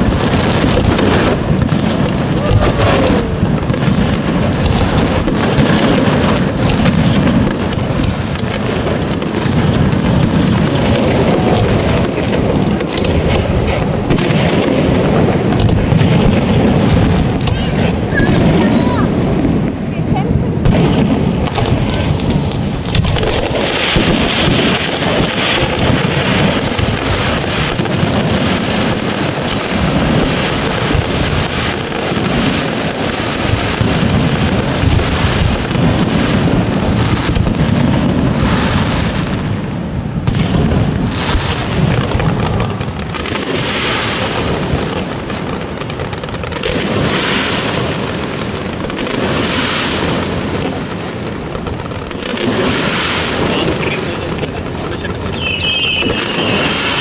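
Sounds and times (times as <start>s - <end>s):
fireworks booming and crackling: 0.0s - 57.0s.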